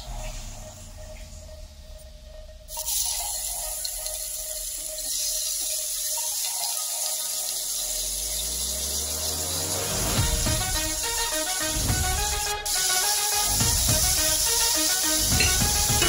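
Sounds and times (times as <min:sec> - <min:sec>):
onions sizzling in hot oil: 0:02.7 - 0:16.0.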